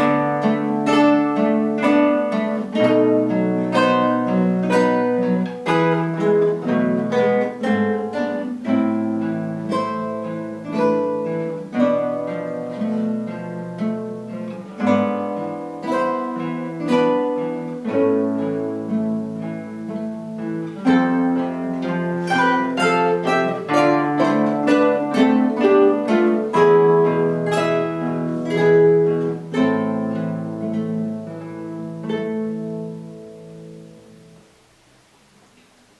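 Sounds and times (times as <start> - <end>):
acoustic guitars plucking: 0.0 - 35.9.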